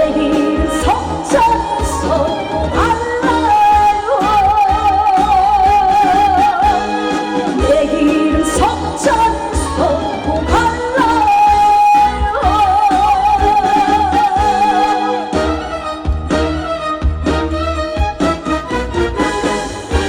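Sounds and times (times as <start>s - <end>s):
trot song over a loudspeaker: 0.0s - 20.0s.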